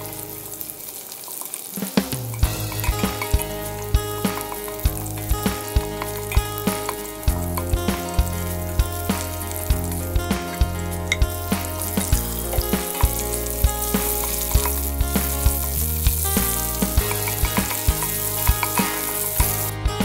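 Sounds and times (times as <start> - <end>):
garlic sizzling in hot oil: 0.0 - 19.8
wooden spoon stirring in pot: 1.1 - 19.7
background music with light beat: 1.8 - 20.0.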